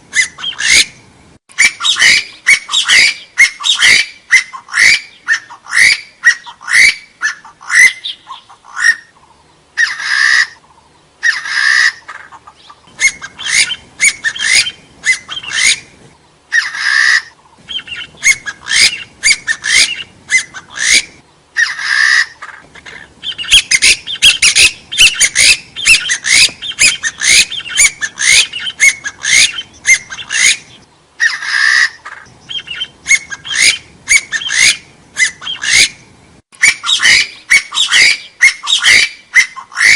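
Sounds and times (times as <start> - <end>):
harsh partridge calls: 0.1 - 39.9.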